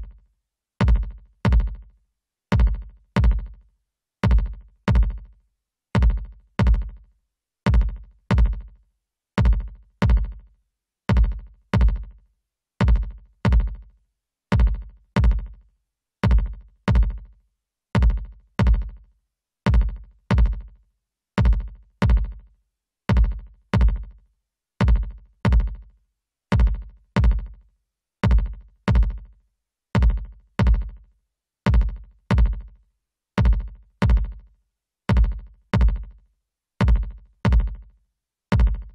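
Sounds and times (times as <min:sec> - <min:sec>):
drum machine kick drums: 0:00.0 - 0:00.2, 0:00.8 - 0:08.8, 0:09.4 - 0:12.2, 0:12.8 - 0:20.8, 0:21.4 - 0:24.2, 0:24.8 - 0:32.8, 0:33.4 - 0:38.9.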